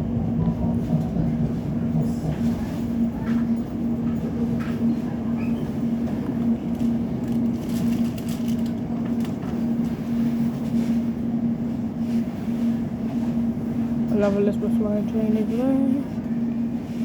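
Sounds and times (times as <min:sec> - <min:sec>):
train carriage running hum: 0:00.0 - 0:17.0.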